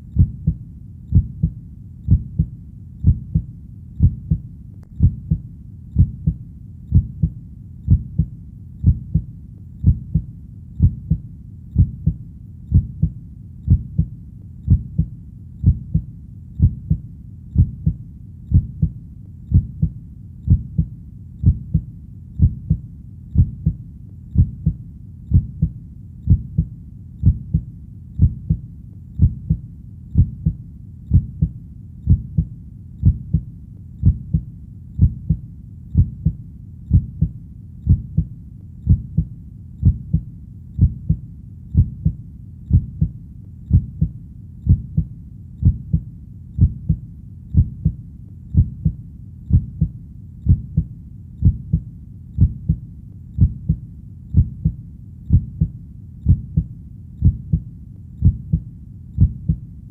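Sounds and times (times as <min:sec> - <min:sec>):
heartbeat thumps: 0:00.0 - 0:59.6
faint low hum: 0:00.0 - 0:59.9.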